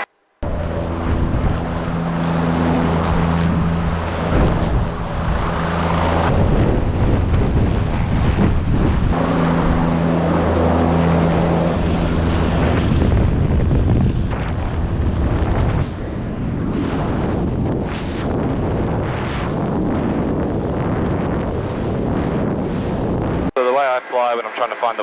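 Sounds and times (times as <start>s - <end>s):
wind noise rushing: 0.4s - 23.5s
helicopter rotor and turbine drone: 0.4s - 25.0s.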